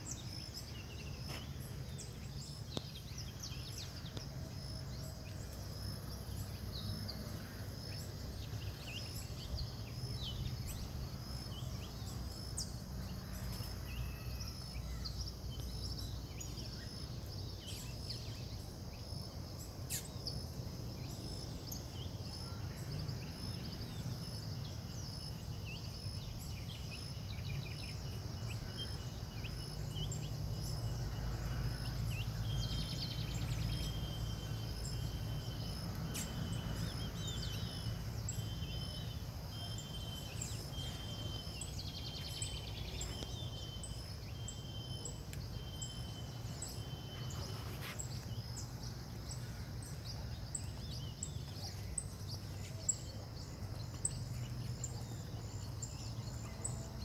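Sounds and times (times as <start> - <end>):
insect-like pulsing chirr: 0.0 - 57.0.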